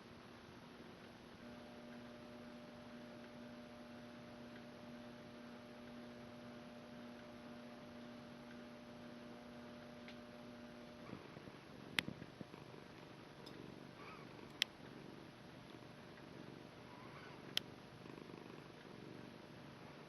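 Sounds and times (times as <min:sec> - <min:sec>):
ceiling fan motor hum: 0:00.0 - 0:20.0.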